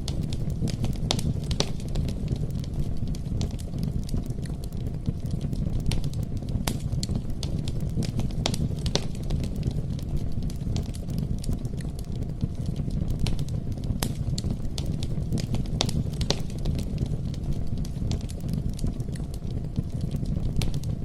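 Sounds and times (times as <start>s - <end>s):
campfire low rumble: 0.0s - 21.0s
fire crackles and pops: 0.0s - 21.0s.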